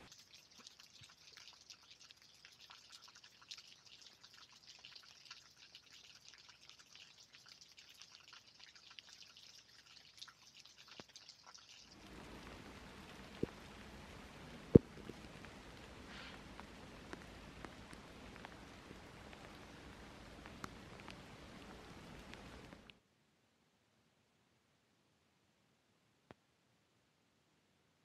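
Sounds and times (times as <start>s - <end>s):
light rain ticking: 0.0s - 23.0s
background noise hiss: 0.0s - 28.0s.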